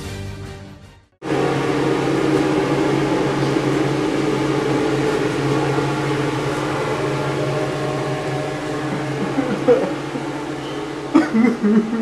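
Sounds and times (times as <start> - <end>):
electric fan whirring: 1.2 - 12.0.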